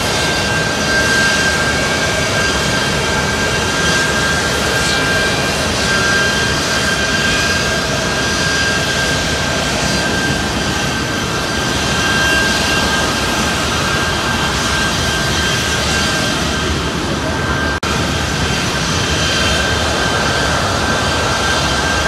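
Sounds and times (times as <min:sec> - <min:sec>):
jet engine roaring with whine: 0:00.0 - 0:22.0.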